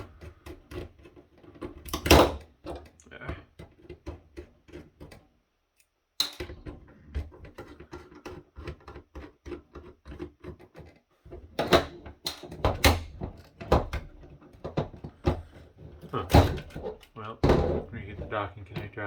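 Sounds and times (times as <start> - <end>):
plastic parts clicking and knocking: 0.0 - 5.4, 6.2 - 19.0.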